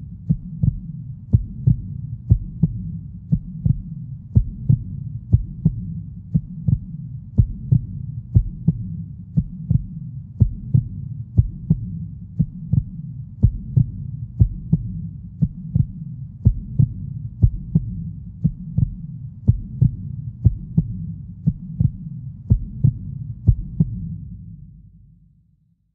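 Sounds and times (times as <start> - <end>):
heartbeat-like double thumps: 0.0 - 24.4.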